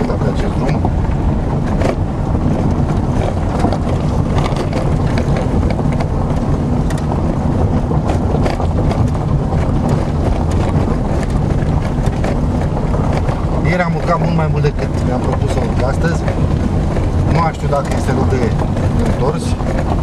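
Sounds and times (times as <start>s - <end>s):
car engine under load: 0.0s - 20.0s
stones crackling under tyres: 0.0s - 20.0s.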